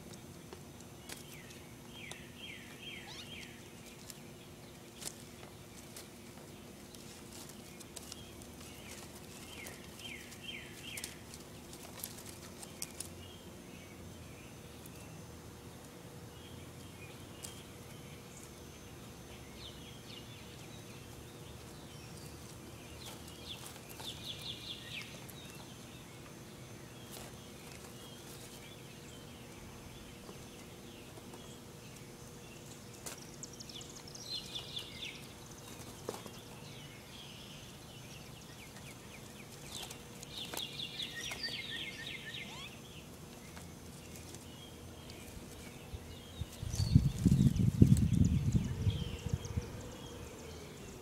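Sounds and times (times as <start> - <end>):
faint outdoor hum: 0.0 - 51.0.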